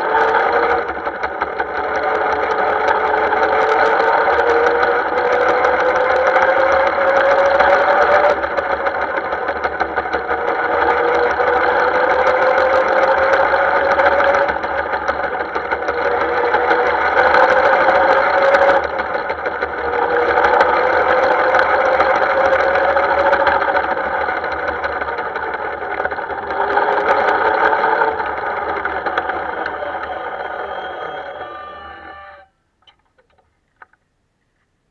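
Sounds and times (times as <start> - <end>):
wheel-on-rail rattle: 0.0 - 32.4
model locomotive drone: 0.0 - 32.5
rising motor whine: 0.0 - 32.5.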